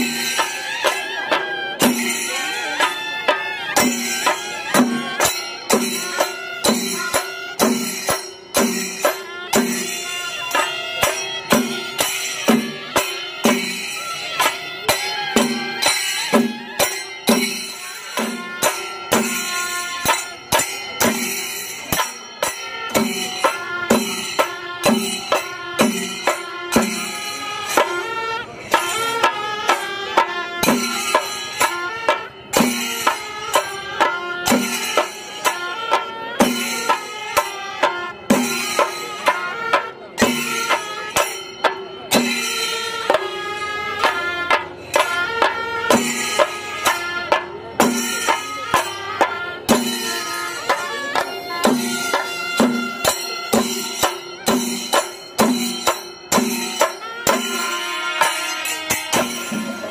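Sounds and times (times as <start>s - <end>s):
jingling cymbal strokes: 0.0s - 59.9s
wavering melody: 0.0s - 59.9s.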